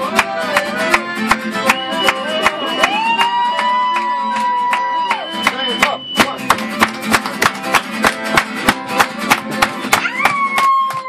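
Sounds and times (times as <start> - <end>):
acoustic guitars strumming: 0.0 - 11.0.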